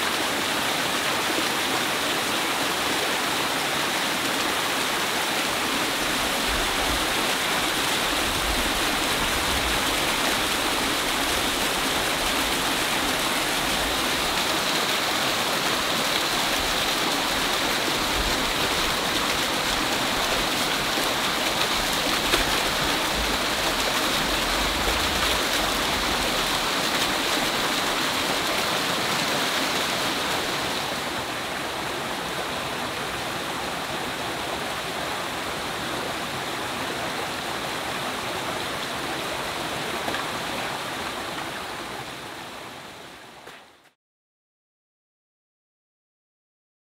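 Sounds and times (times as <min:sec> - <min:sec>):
water rushing over rocks: 0:00.0 - 0:43.5.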